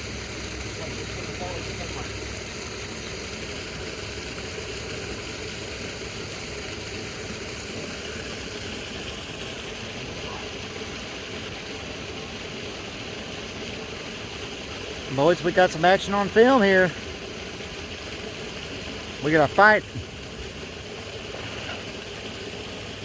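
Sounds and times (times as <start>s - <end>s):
even hiss: 0.0s - 23.0s
mechanical hum: 0.0s - 23.0s.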